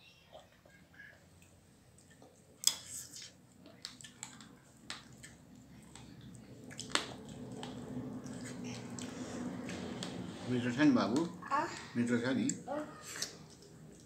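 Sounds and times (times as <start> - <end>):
soft chewing and squishing of food: 0.1 - 14.0.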